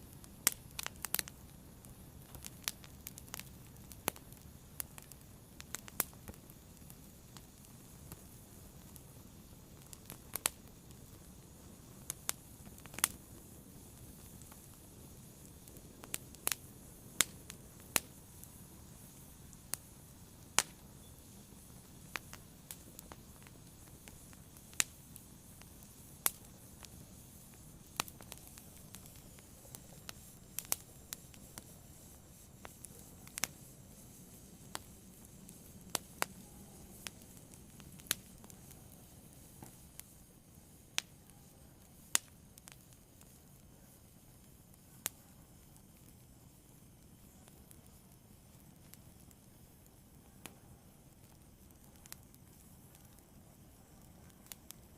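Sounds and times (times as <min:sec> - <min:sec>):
fire crackling and popping: 0:00.0 - 0:54.9
soft low hiss: 0:00.0 - 0:54.9.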